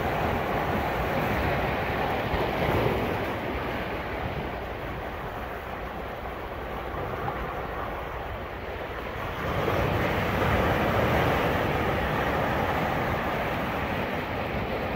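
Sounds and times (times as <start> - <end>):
ocean waves washing in: 0.0 - 14.9.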